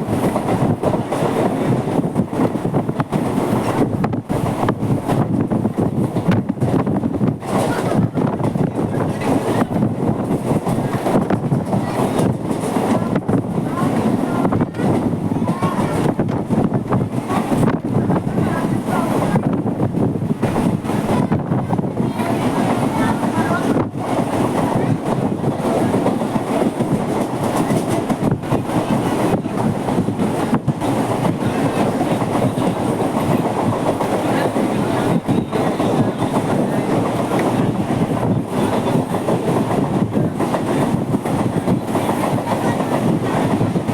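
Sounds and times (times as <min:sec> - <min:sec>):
electric train rumbling and rattling: 0:00.0 - 0:43.9
wind noise: 0:00.0 - 0:43.9.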